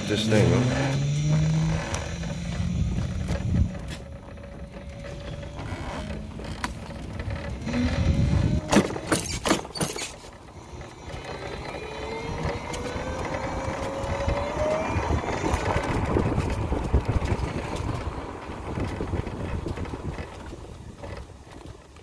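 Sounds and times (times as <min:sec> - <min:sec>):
electric motor whining: 0:00.0 - 0:09.1, 0:10.4 - 0:19.5.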